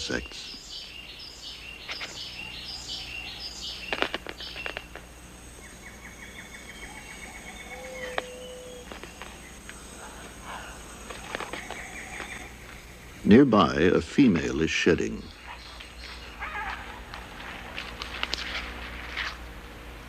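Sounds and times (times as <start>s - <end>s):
bird calls: 0.0s - 13.9s, 15.0s - 18.8s
high insect drone: 0.0s - 20.0s.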